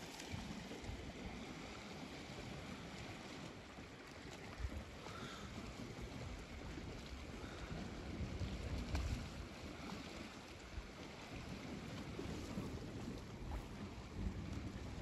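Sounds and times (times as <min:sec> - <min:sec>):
sea noise: 0:00.0 - 0:15.0
wind: 0:00.0 - 0:15.0
wind buffeting microphone: 0:00.2 - 0:15.0.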